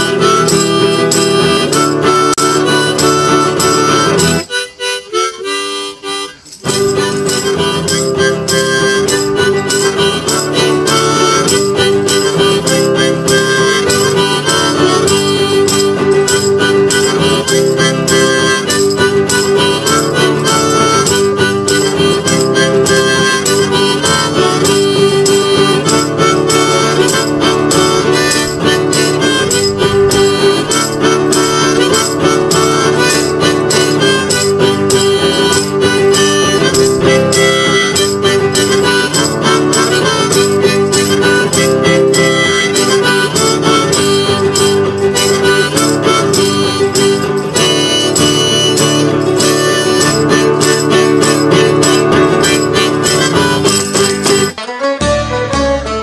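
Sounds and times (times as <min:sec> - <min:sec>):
guitar accompaniment: 0:00.0 - 0:56.0
harmonica tune: 0:00.0 - 0:56.0.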